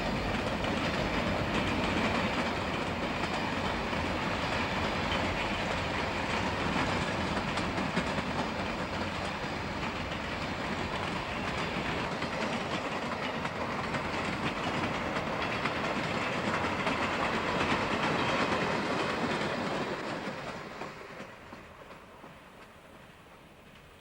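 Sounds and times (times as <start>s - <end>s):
train wheels clattering over rails: 0.0s - 24.0s.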